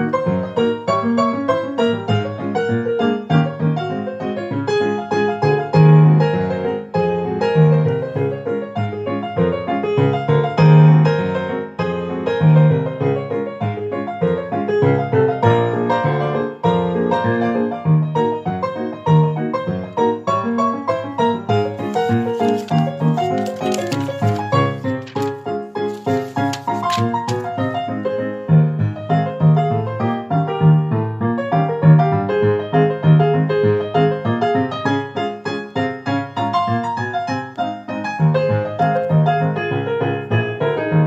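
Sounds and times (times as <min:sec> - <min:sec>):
ragtime piano: 0:00.0 - 0:41.0.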